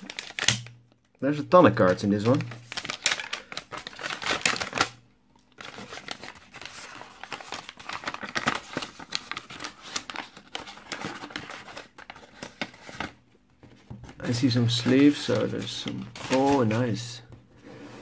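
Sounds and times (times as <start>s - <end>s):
paper wrapper rustling: 0.0s - 0.7s, 1.8s - 17.3s.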